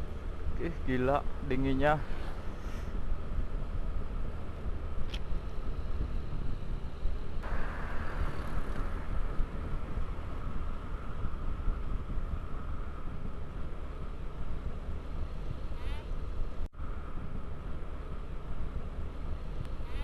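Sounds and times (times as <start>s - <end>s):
wind buffeting microphone: 2.9s - 20.0s.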